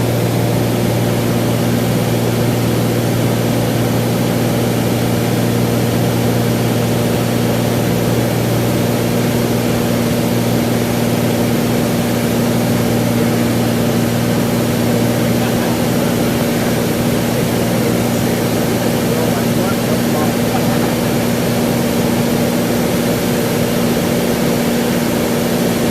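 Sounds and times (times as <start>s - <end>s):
airplane engine droning: 0.0s - 25.9s.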